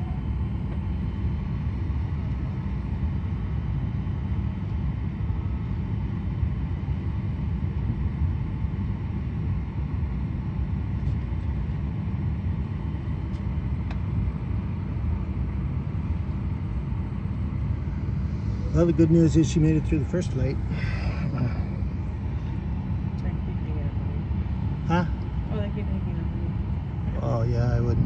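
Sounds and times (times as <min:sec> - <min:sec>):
airliner cabin ventilation hum: 0:00.0 - 0:28.0.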